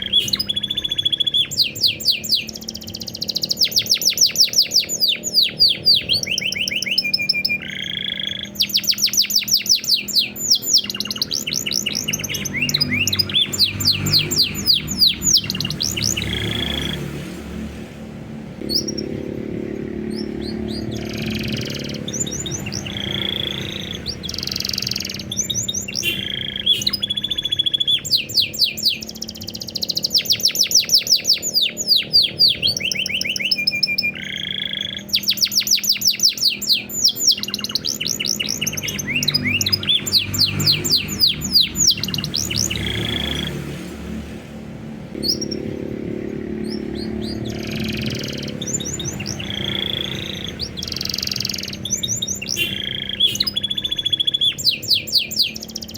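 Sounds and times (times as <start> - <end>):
canary singing: 0.0 - 55.9.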